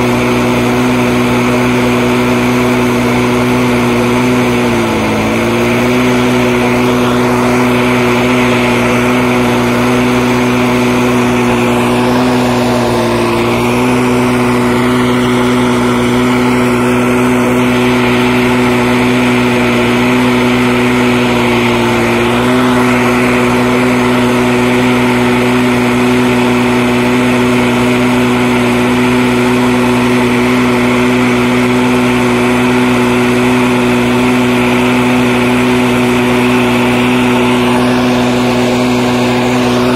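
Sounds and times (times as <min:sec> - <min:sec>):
small portable engine running: 0:00.0 - 0:39.9.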